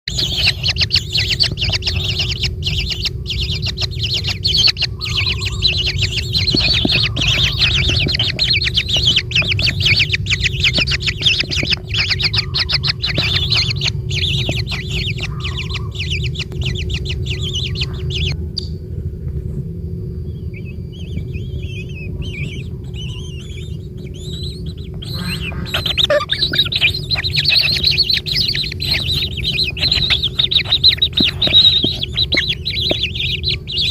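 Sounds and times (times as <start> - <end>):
kingfisher chattering call: 0.1 - 18.4, 21.4 - 33.9
low rumble: 0.1 - 33.9.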